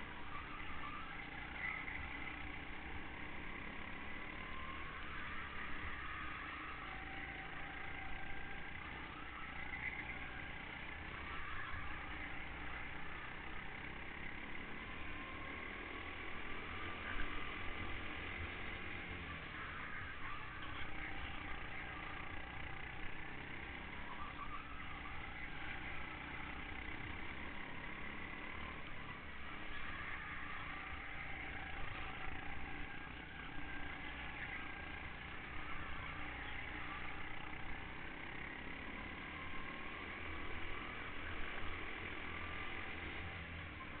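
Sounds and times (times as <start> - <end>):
kart engine running: 0.0 - 44.0.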